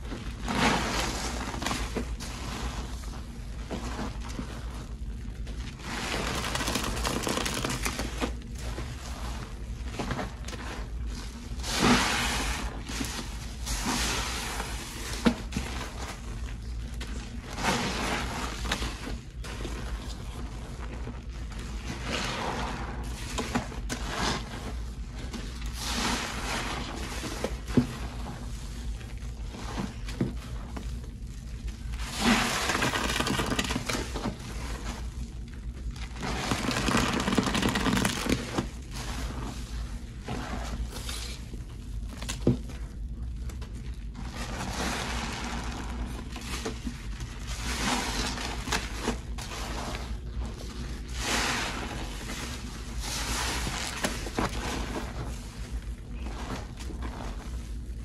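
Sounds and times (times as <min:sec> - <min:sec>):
wet foamy hand scrubbing: 0:00.3 - 0:16.6, 0:17.3 - 0:40.9, 0:44.1 - 0:57.9.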